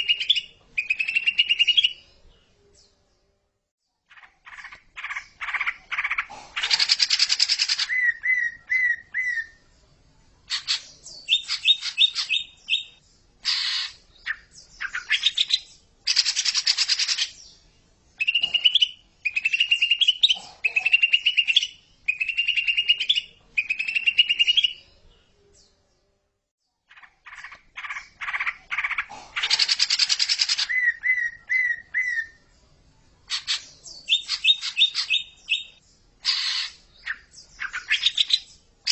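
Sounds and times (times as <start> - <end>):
bird singing trills and whistles: 0.0 - 2.0, 4.1 - 9.6, 10.5 - 17.6, 18.2 - 25.0, 26.9 - 32.4, 33.3 - 38.9.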